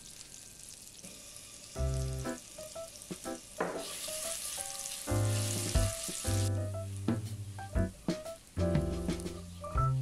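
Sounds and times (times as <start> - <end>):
garlic sizzling in butter: 0.0 - 9.8
background music: 1.8 - 10.0.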